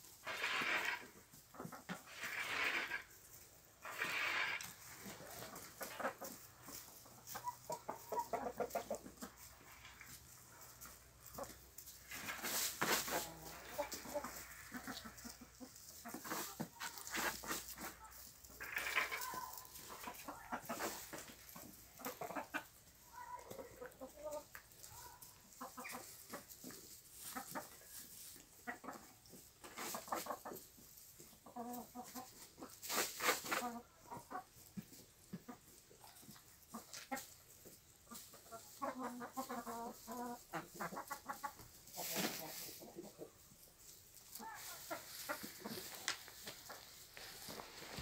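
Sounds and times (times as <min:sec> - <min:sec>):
chickens clucking: 0:00.0 - 0:48.0
pecking and scratching in straw: 0:00.0 - 0:48.0.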